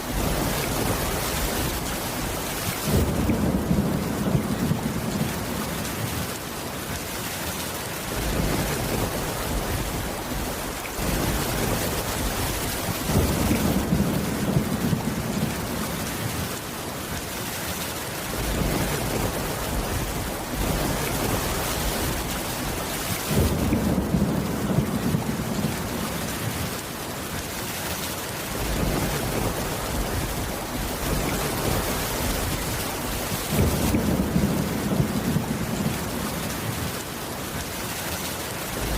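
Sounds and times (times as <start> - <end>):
low thunder rumbles: 0.0 - 6.4, 8.1 - 16.5, 18.3 - 26.8, 28.5 - 37.1, 38.6 - 38.9
heavy rain: 0.0 - 38.9.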